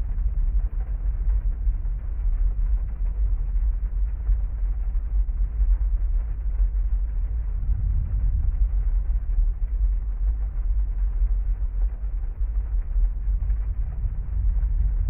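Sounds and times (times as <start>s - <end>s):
muffled heavy rain on car: 0.0s - 15.0s.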